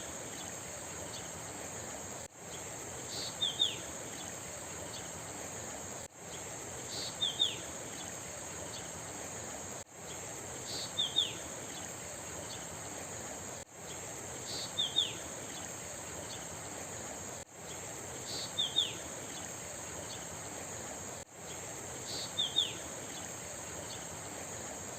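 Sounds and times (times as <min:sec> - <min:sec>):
insect trill: 0:00.0 - 0:24.9.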